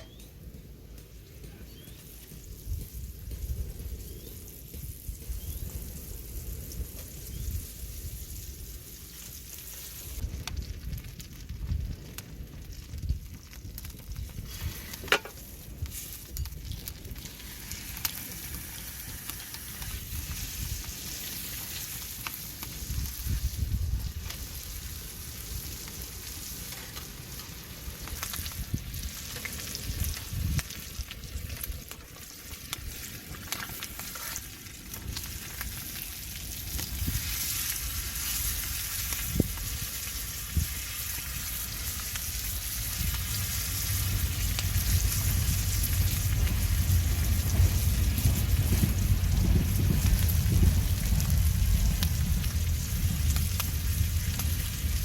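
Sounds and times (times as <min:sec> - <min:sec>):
food sizzling in a frying pan: 0:01.8 - 0:12.2, 0:13.0 - 0:55.0.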